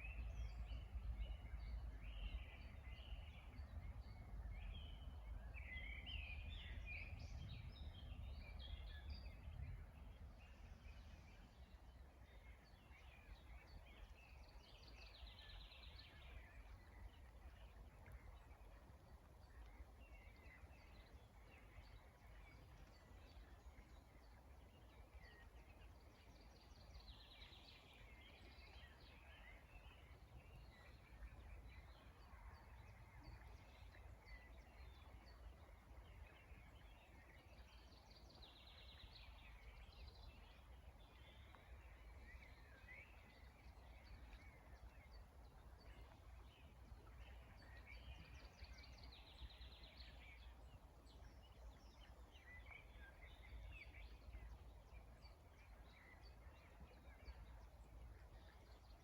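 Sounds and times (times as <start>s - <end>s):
songbirds chirping and whistling: 0.0s - 59.0s.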